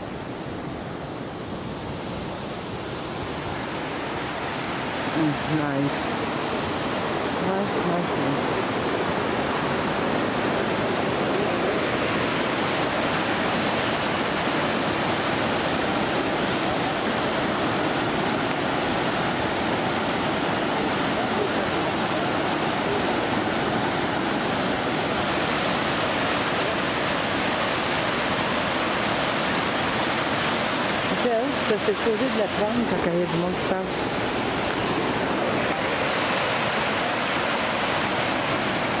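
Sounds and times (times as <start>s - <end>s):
water rushing over rocks: 0.0s - 39.0s.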